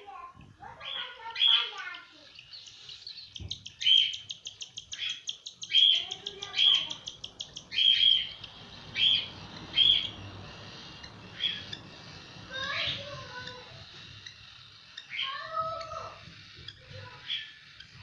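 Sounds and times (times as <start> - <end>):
chicks begging calls: 0.6 - 18.0
fast ticking chirps: 0.6 - 18.0.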